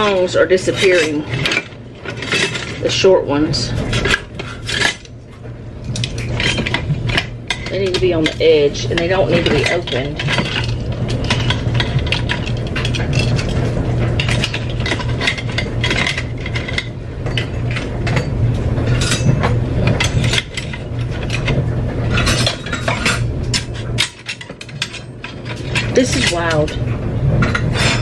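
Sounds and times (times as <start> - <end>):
metal utensils clinking: 0.0 - 5.2, 5.8 - 28.0
steady low hum: 0.0 - 28.0.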